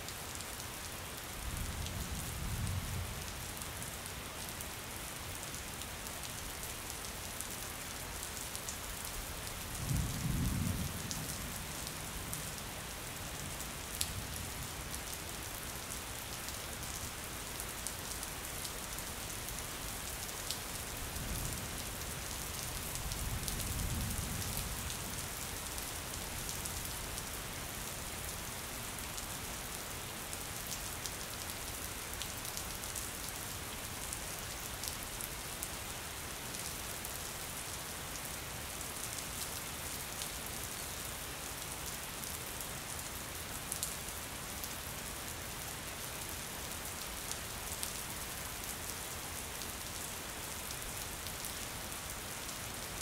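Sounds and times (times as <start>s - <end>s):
rain on a window pane: 0.0s - 53.0s.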